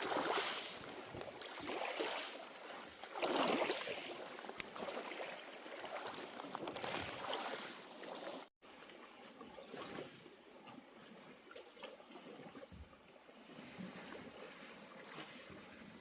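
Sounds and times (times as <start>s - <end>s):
water splashing and lapping: 0.0s - 16.0s.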